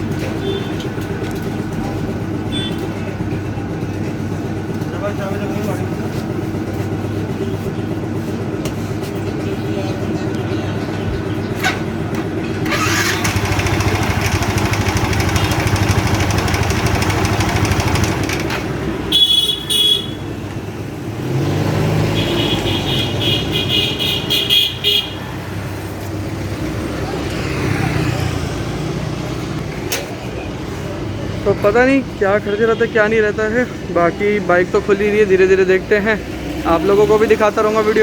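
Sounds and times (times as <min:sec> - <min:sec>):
motorcycle engines in traffic: 0:00.0 - 0:38.0.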